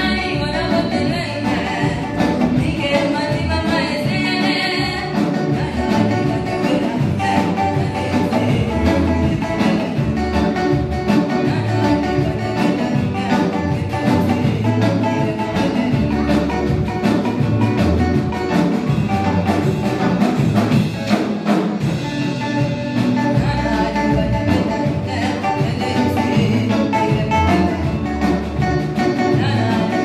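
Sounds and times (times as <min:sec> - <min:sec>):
live gospel band music: 0:00.0 - 0:30.0.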